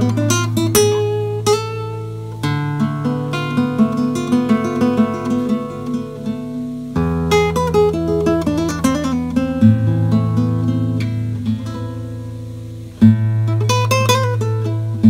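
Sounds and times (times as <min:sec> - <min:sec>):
classical guitar fingerstyle: 0:00.0 - 0:15.0.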